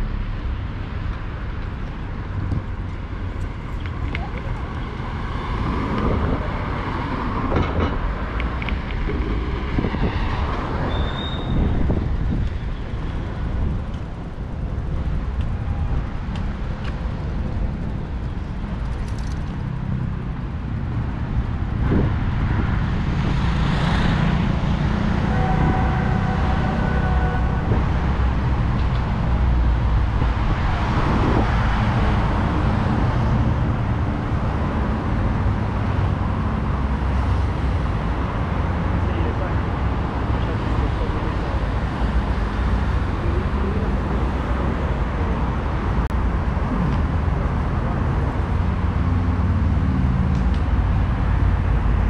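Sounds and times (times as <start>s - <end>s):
passing vehicle whine: 0.0s - 52.0s
road traffic rumble: 0.0s - 52.0s.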